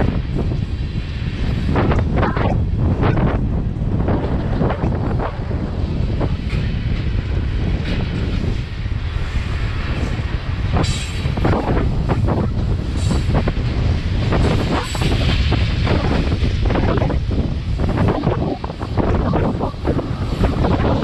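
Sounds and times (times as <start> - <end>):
rail-car wheels clattering: 0.0 - 21.0
train rumbling past: 0.0 - 21.0.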